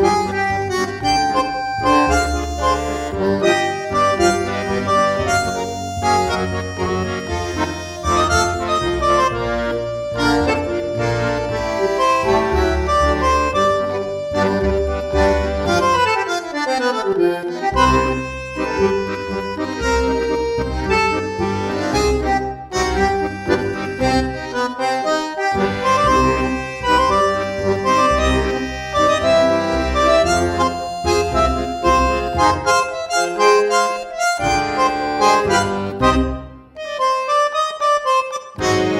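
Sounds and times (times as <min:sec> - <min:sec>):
instrumental music with bass pulse: 0:00.0 - 0:38.9.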